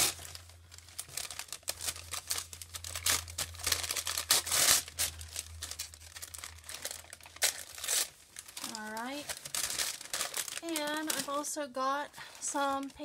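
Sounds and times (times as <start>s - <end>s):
paper tearing and crinkling: 0.0s - 11.4s
low steady hum: 0.0s - 13.0s.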